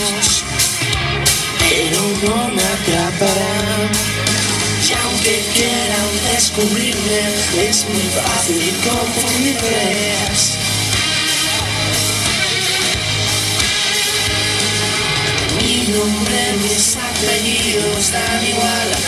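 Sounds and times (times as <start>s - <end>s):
rock music with singer: 0.0s - 19.0s.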